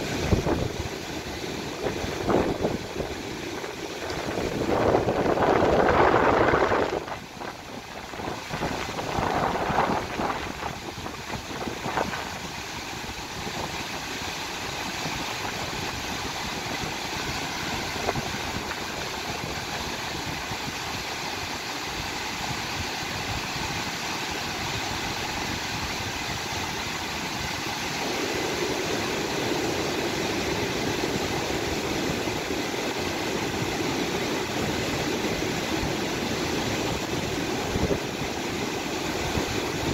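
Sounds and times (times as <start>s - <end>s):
river rushing over boulders: 0.0s - 39.9s
wind gusts on microphone: 0.0s - 39.9s.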